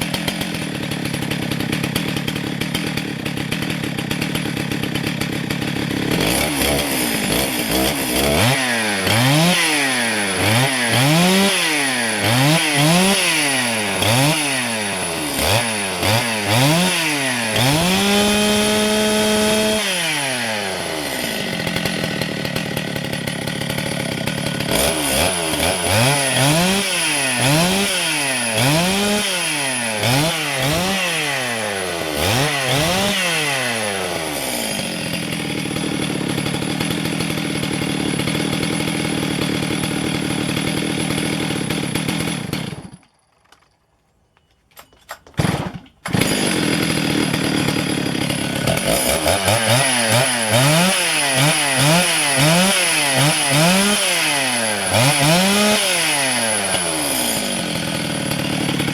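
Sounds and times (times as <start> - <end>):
chainsaw revving: 0.0 - 43.4, 45.1 - 58.9.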